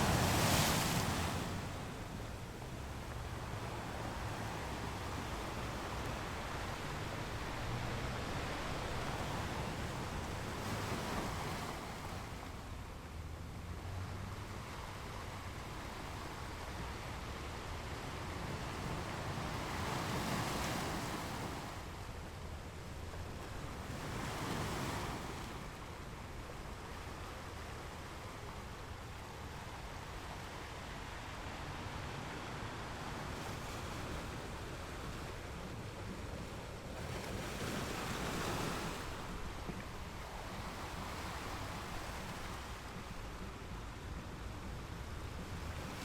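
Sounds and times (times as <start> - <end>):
ocean waves washing ashore: 0.0 - 46.0.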